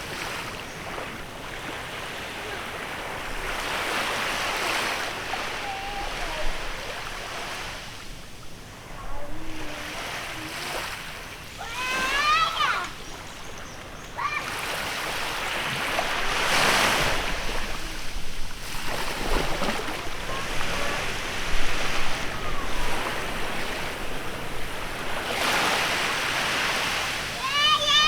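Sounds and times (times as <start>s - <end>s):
small waves washing onto beach: 0.0s - 28.0s.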